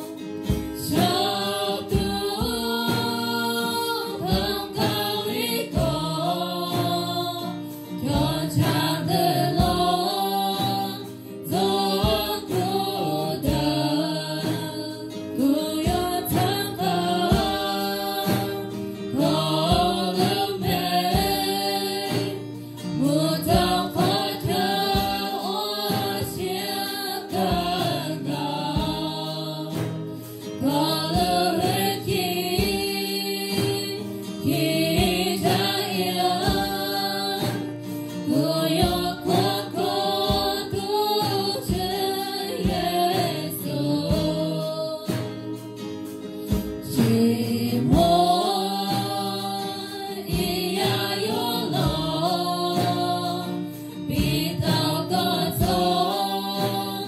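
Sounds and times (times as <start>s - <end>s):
women singing together: 0.0s - 45.8s, 46.4s - 57.0s
drum kit beat: 0.0s - 57.0s
strummed acoustic guitar: 0.0s - 57.0s.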